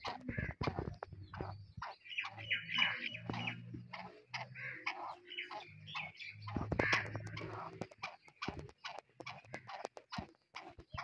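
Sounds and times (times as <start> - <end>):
bird squawking calls: 0.0 - 11.0.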